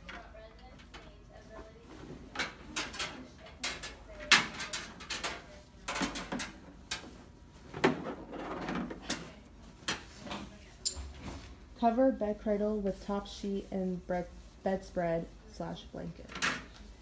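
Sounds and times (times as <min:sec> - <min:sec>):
bedding rustling: 0:01.1 - 0:17.0.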